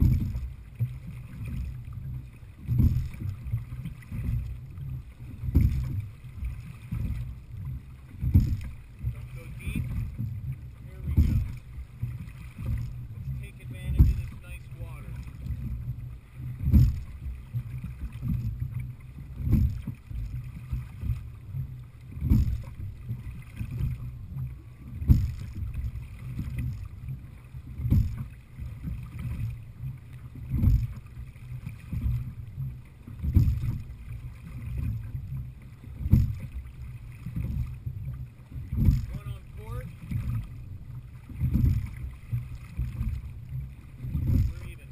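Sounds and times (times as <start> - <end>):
oars knocking in oarlocks: 0.0 - 1.8, 2.6 - 27.0, 27.6 - 44.9
low rumble of water: 0.0 - 44.9
wind: 0.0 - 44.9.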